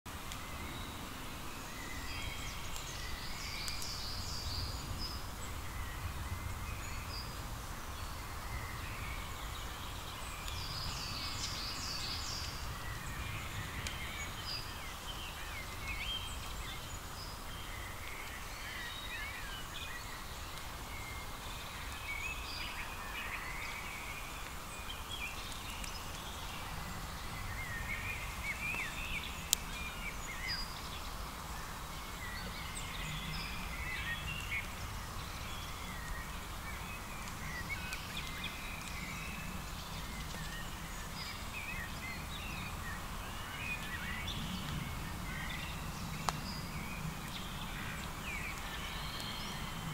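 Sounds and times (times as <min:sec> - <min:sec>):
small birds chirping: 0:00.1 - 0:49.9.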